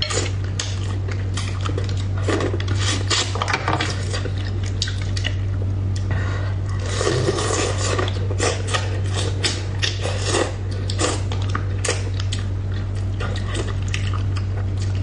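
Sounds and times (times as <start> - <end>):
wet chewing: 0.0 - 6.1, 6.7 - 15.0
steady low hum: 0.0 - 15.0.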